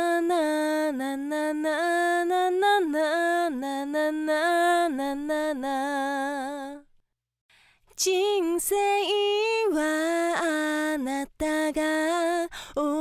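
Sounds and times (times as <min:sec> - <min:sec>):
woman singing a cappella: 0:00.0 - 0:07.0, 0:07.9 - 0:13.0.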